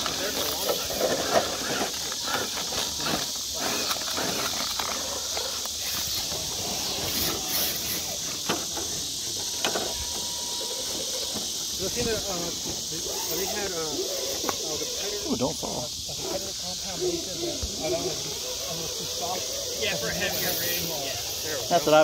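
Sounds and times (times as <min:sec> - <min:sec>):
faint voices: 0:00.0 - 0:22.0
night insects chorus: 0:00.0 - 0:22.0.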